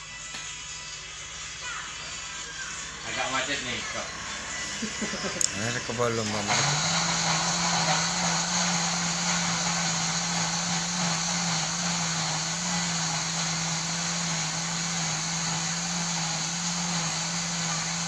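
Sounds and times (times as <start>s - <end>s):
blender motor running: 2.8s - 18.0s.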